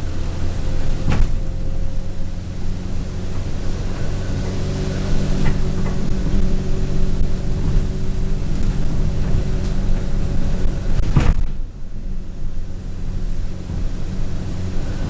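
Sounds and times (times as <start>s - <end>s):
interior fittings rattling: 0.0s - 12.6s
bus engine drone: 0.0s - 15.0s
road noise: 0.0s - 15.0s.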